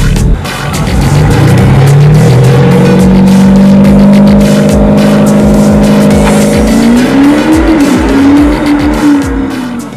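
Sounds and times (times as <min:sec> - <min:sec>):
kick drum beat: 0:00.0 - 0:09.9.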